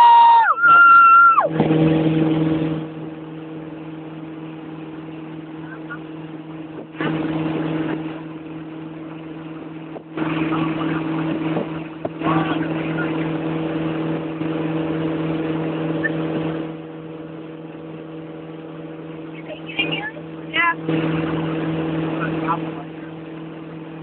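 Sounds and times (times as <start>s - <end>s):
motorboat engine running: 0.0s - 24.0s
wake water rushing: 0.0s - 24.0s.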